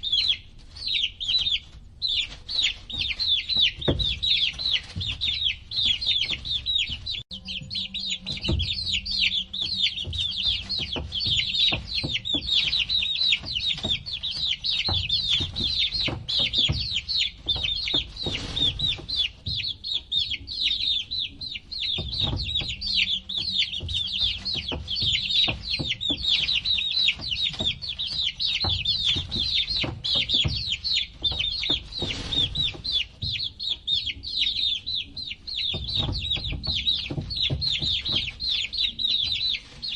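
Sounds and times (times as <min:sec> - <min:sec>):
baby chicks peeping: 0:00.0 - 0:39.9
low knocks and bumps: 0:02.4 - 0:20.6, 0:21.3 - 0:39.9.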